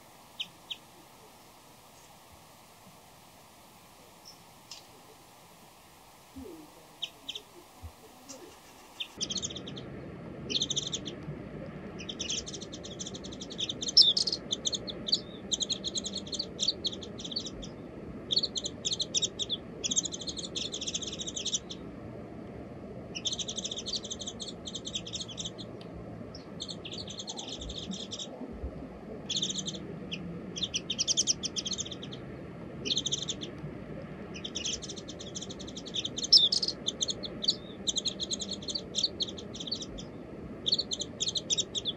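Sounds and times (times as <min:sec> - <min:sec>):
small songbirds chirping: 0:00.0 - 0:22.0, 0:23.0 - 0:41.9.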